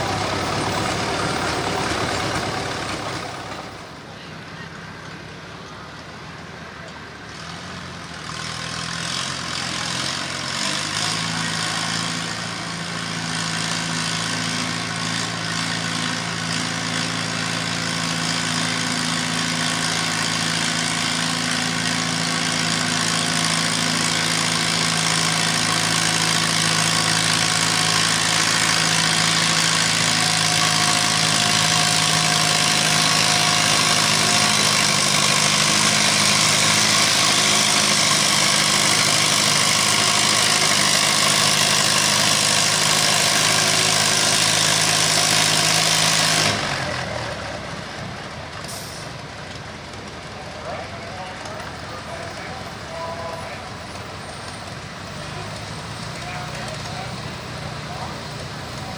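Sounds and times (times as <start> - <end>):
tractor engine at full throttle: 0.0 - 58.9.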